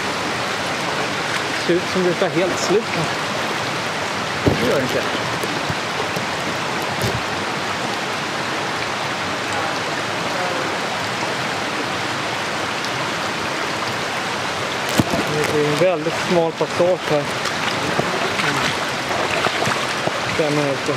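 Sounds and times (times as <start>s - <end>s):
water rushing over rocks: 0.0s - 20.9s.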